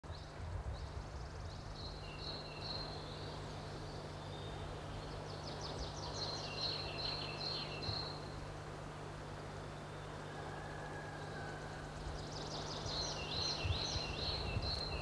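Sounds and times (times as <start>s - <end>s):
songbird singing: 0.0s - 15.0s
faint steady low hum: 0.1s - 15.0s.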